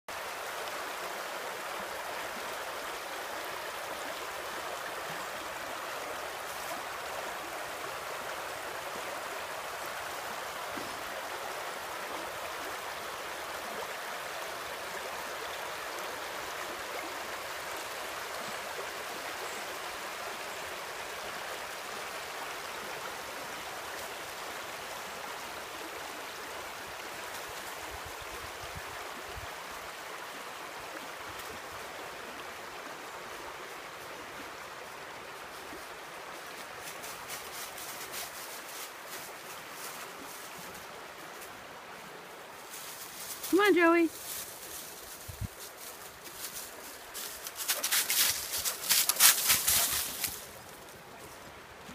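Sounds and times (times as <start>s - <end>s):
stream rushing over rocks: 0.1s - 51.9s.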